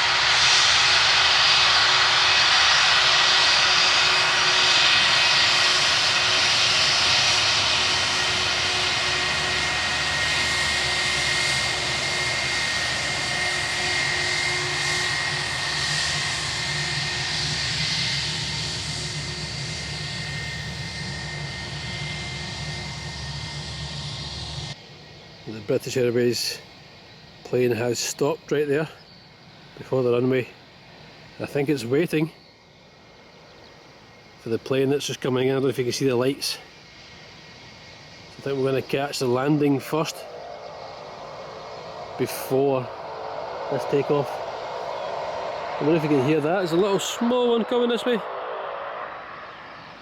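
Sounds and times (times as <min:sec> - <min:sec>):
jet engines whining: 0:00.0 - 0:50.0.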